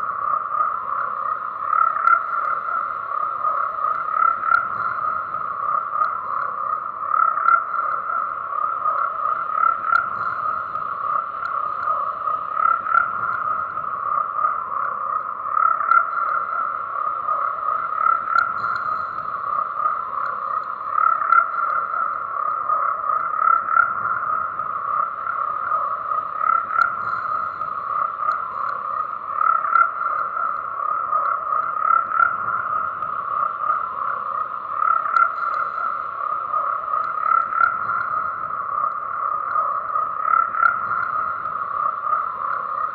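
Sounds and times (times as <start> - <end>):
frogs croaking: 0.0 - 42.9.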